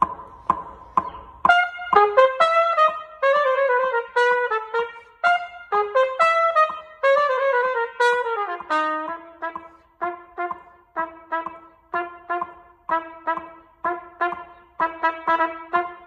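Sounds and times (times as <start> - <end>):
solo trumpet melody: 1.5 - 16.0.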